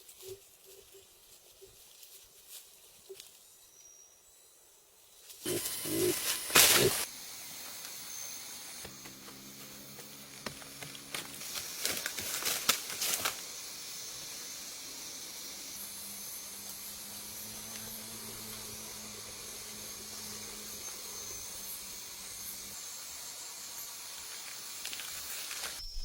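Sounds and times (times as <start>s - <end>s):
steady high-pitched hiss: 0.0s - 26.0s.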